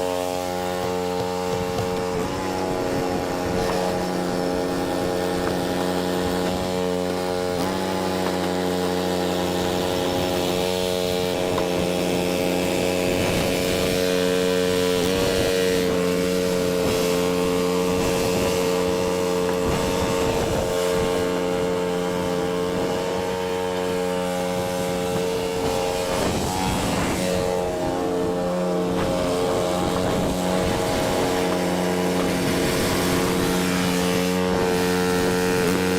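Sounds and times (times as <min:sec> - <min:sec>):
snow blower engine running: 0:00.0 - 0:35.9.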